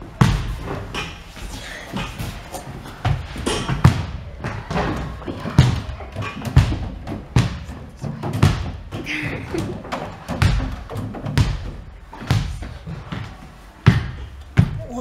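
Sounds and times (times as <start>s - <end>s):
feet and hands thudding on wall bars: 0.0s - 15.0s.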